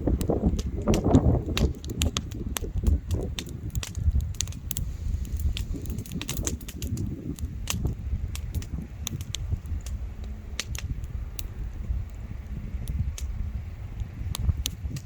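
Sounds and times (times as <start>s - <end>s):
bonfire crackling: 0.0s - 15.0s
pops and snaps of burning wood: 0.0s - 15.0s.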